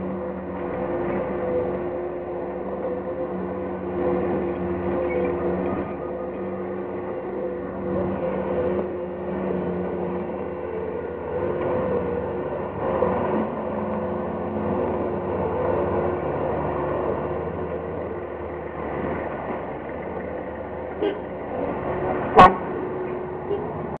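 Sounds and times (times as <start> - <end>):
loader engine running: 0.0 - 24.0.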